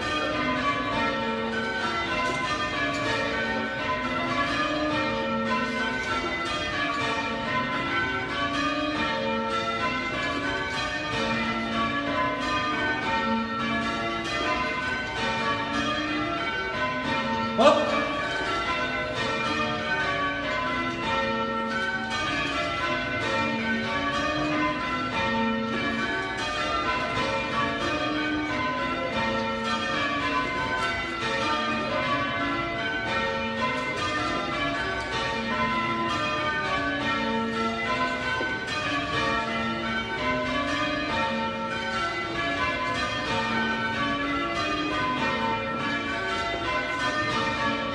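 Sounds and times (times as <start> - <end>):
church bells change ringing: 0.0 - 47.9.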